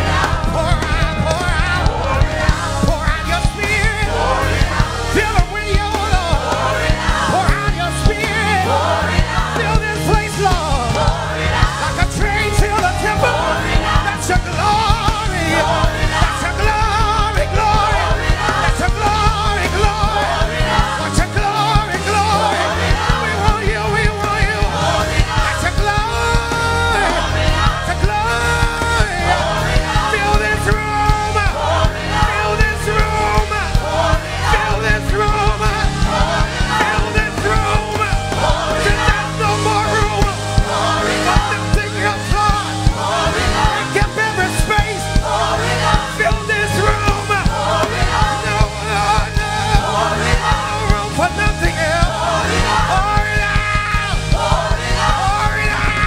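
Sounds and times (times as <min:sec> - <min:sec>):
bass and drum beat: 0:00.0 - 0:56.0
people singing: 0:00.0 - 0:56.0
worship band music: 0:00.0 - 0:56.0.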